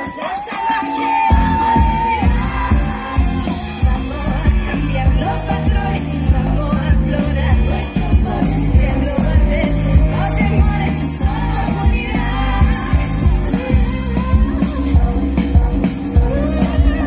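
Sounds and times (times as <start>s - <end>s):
live pop band playing: 0.0s - 17.0s
woman singing: 0.0s - 17.0s
drum beat: 0.4s - 17.0s
heavy bass: 1.3s - 17.0s.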